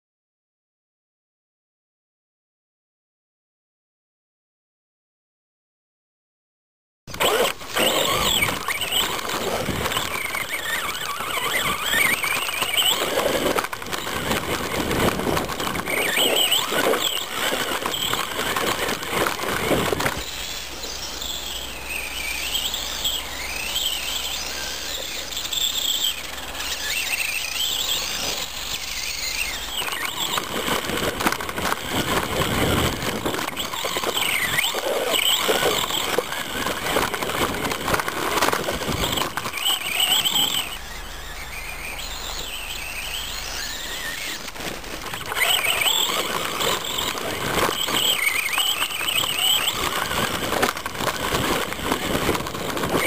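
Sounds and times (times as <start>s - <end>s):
electric motor whining: 7.1s - 53.0s
tyres churning through snow: 7.1s - 53.0s.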